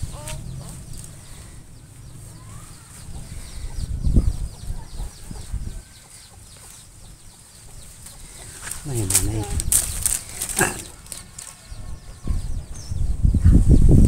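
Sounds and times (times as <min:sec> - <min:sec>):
chickens clucking: 0:00.0 - 0:12.8.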